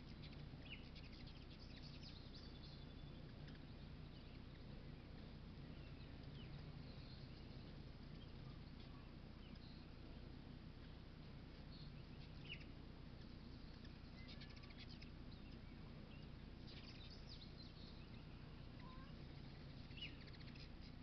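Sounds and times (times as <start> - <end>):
hummingbird chips and chattering: 0.0 - 10.0, 11.6 - 21.0
low background hum: 0.0 - 21.0.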